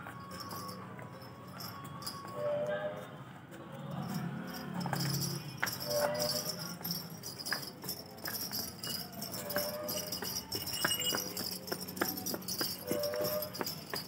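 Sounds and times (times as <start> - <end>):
cow leg bells jingling: 0.0 - 3.1, 3.8 - 14.0.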